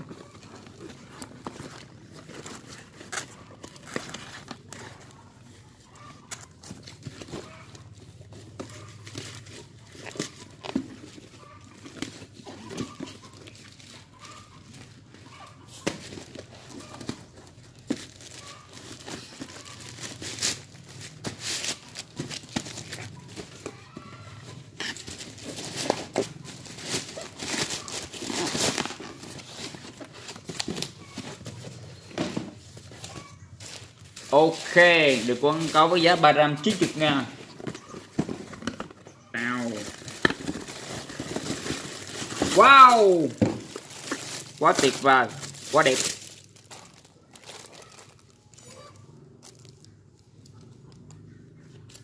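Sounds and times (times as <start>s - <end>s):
plastic bag crinkling and tearing: 0.0s - 32.0s, 32.7s - 38.8s, 39.4s - 50.2s.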